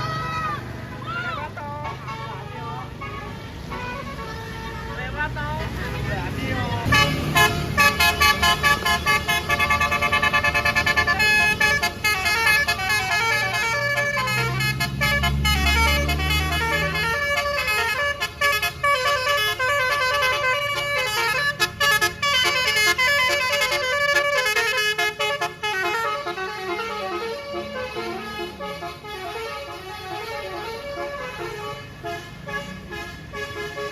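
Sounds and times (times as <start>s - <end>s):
bus engine rumble: 0.0s - 33.9s
multi-tone air horn melody: 1.6s - 5.3s, 6.8s - 33.9s.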